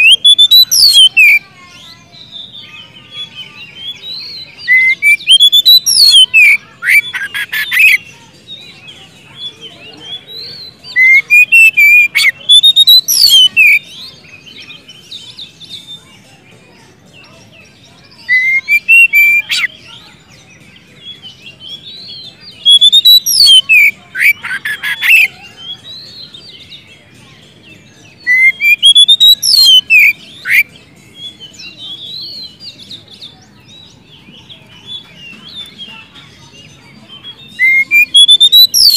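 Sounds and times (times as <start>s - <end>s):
songbird whistling song: 0.0s - 38.9s.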